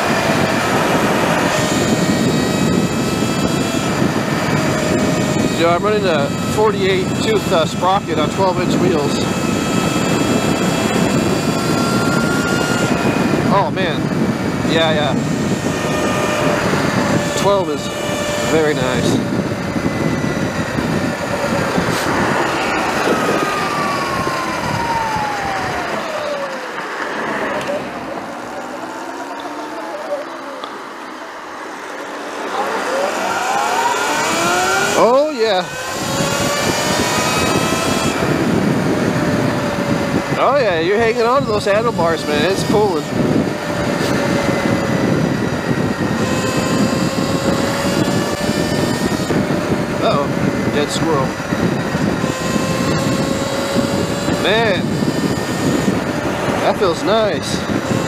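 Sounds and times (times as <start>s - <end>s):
electric motor whining: 0.0s - 58.0s
wind and road noise: 0.0s - 58.0s.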